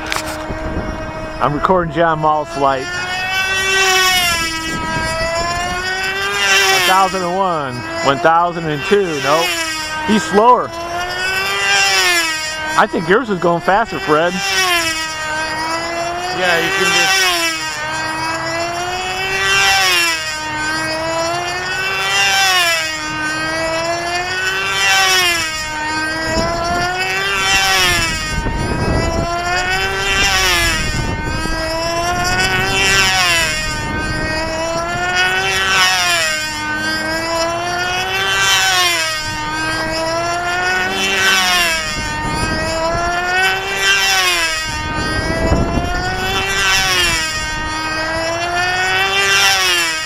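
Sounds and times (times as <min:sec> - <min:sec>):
model airplane motor buzzing: 0:00.0 - 0:50.0.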